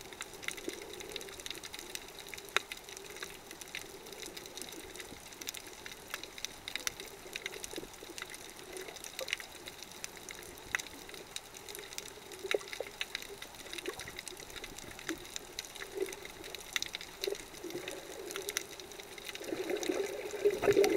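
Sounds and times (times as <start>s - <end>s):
sharp underwater clicks and crackles: 0.0s - 20.9s.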